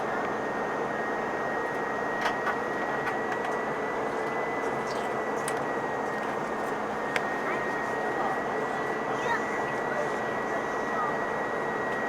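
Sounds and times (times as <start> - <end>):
jet engine and airflow rush: 0.0 - 12.0.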